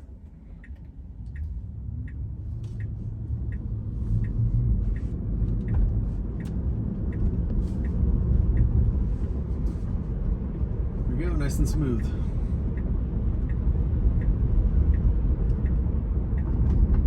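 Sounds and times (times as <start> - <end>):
turn signal ticking: 0.1 - 17.0.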